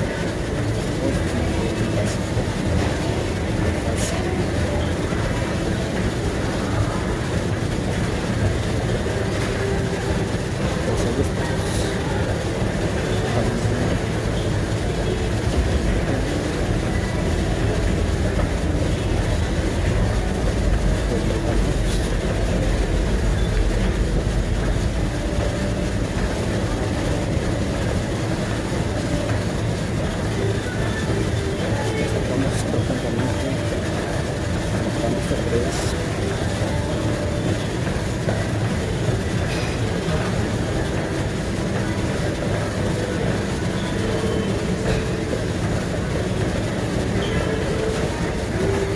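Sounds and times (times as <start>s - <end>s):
treadmill rumbling: 0.0s - 48.9s.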